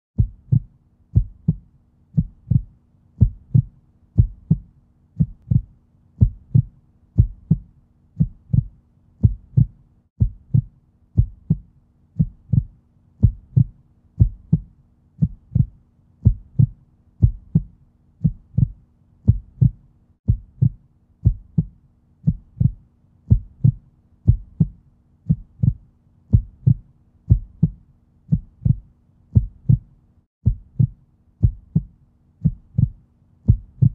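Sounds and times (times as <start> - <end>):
heartbeat double thump: 0.2 - 1.6, 2.2 - 33.9.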